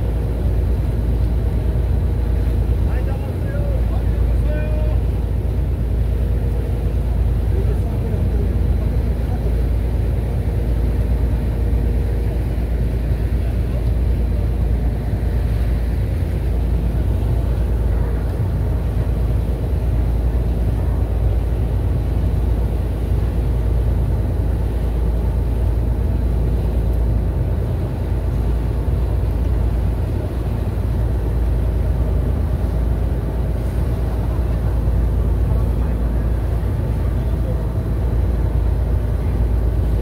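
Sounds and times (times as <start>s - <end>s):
ferry engine rumble: 0.0s - 40.0s.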